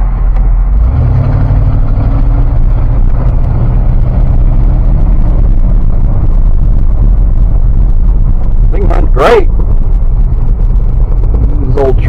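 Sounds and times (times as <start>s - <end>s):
pickup truck engine rumble: 0.0s - 12.0s
road noise: 0.0s - 12.0s.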